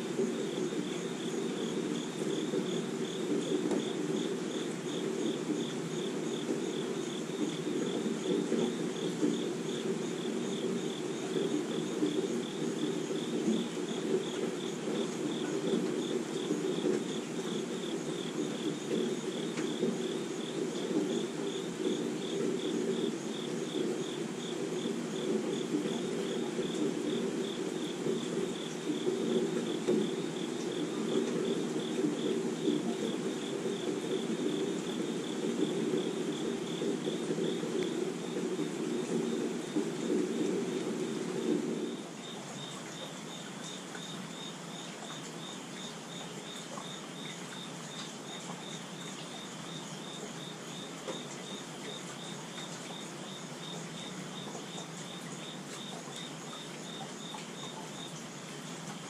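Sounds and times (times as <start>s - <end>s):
insects chirping: 0.0s - 59.0s
steady rainfall: 0.0s - 59.0s.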